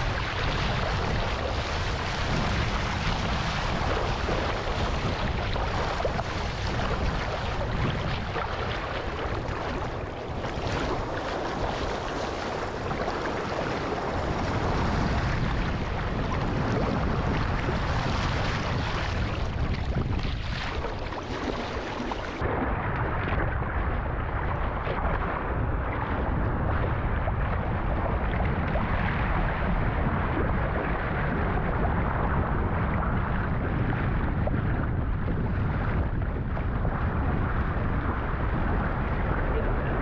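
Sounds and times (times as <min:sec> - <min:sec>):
ocean water washing: 0:00.0 - 0:40.0
wind on microphone: 0:00.0 - 0:40.0.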